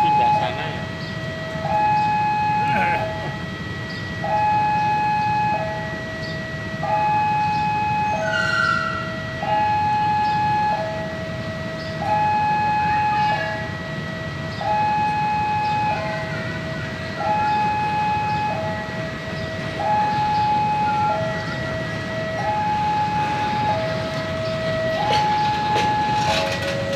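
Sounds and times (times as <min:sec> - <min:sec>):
freight wagons rumbling: 0:00.0 - 0:06.1, 0:09.1 - 0:26.9
level-crossing alarm two-tone: 0:00.0 - 0:26.9.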